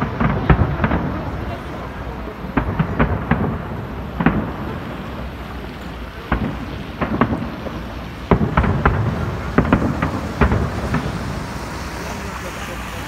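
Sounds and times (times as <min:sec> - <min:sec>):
fireworks booming bangs: 0:00.0 - 0:13.0.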